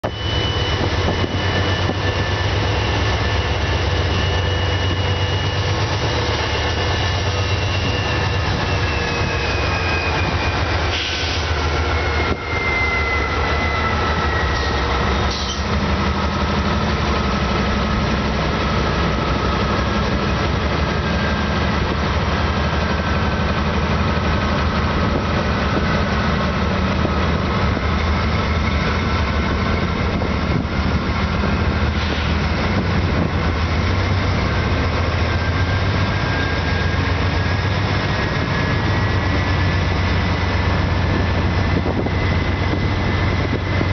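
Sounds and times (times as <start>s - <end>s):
diesel locomotive engine drone: 0.0s - 43.9s
high whine: 0.0s - 43.9s.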